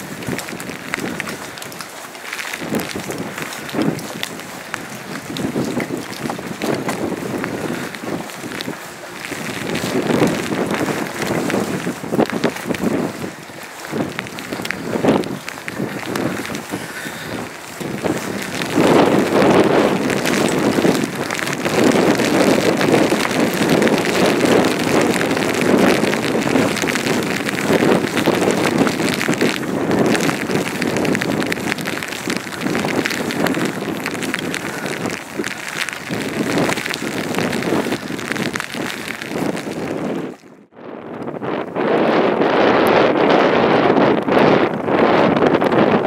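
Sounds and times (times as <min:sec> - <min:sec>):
rain pattering: 0:00.0 - 0:46.0
wind buffeting microphone: 0:00.0 - 0:46.0.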